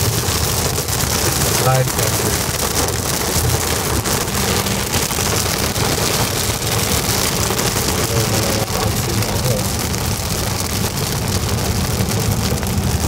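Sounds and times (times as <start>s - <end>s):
car road noise: 0.0s - 13.0s
heavy rain on car roof: 0.0s - 13.0s.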